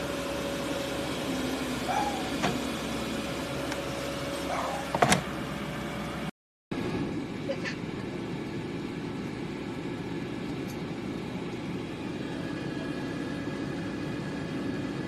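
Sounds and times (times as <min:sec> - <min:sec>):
air fryer fan whirring: 0:00.0 - 0:15.0.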